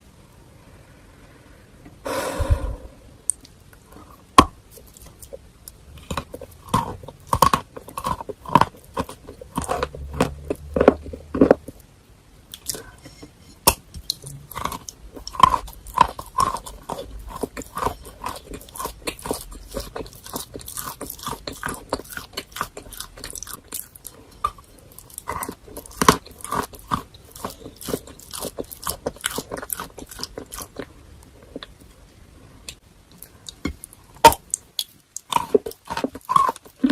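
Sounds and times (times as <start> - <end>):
chewing and crunching: 3.8 - 11.9, 12.5 - 31.9, 32.7 - 36.9.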